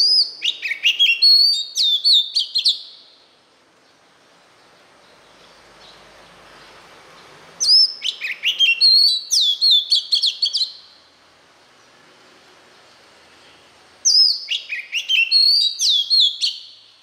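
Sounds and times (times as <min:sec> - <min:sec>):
bird singing whistled notes: 0:00.0 - 0:04.0, 0:04.6 - 0:11.0, 0:13.4 - 0:17.0.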